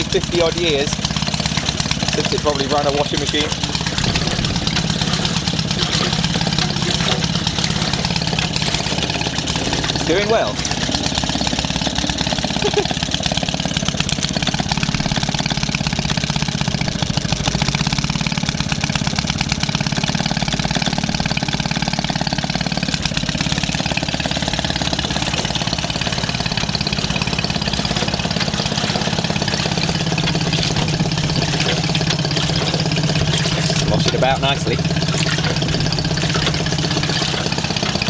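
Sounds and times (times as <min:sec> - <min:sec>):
two-stroke engine running: 0:00.0 - 0:38.0.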